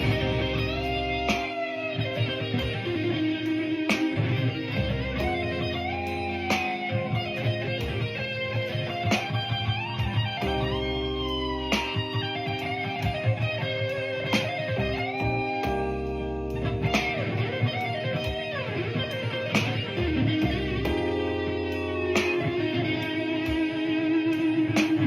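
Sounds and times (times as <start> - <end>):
blues electric guitar lead: 0.0 - 25.0
sustained bass notes: 0.0 - 25.0.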